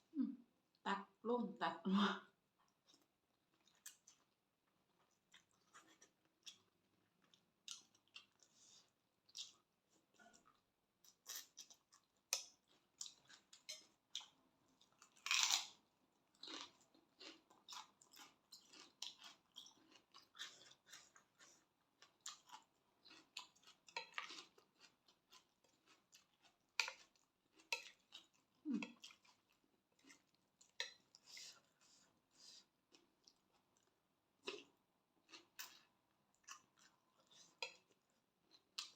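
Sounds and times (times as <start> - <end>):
wet chewing smacks and crunches: 2.6 - 31.8, 32.9 - 38.9.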